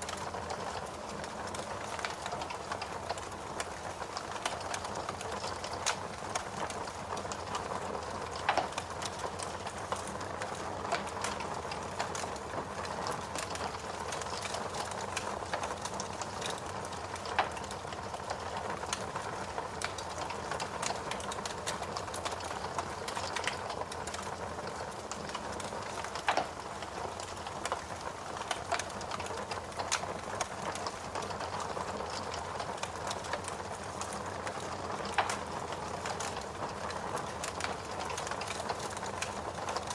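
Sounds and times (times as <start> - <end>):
steady rain hiss: 0.0 - 39.9
wood fire crackling: 0.0 - 39.9.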